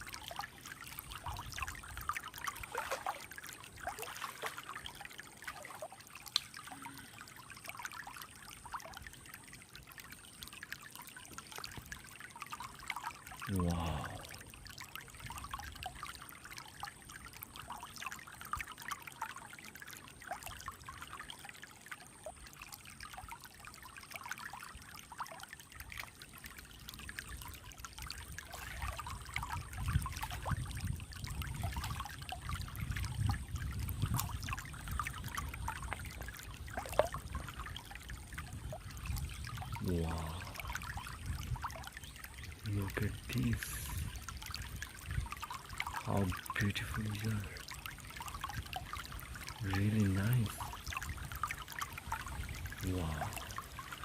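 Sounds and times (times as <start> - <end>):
low rumble in water: 0.0 - 54.0
stream trickling over stones: 0.0 - 54.0.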